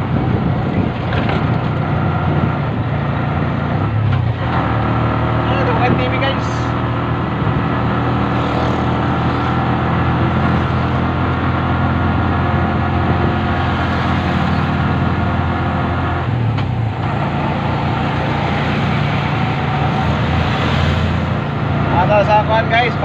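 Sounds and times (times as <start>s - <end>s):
road and wind noise: 0.0s - 23.0s
vehicle engine running: 0.0s - 23.0s.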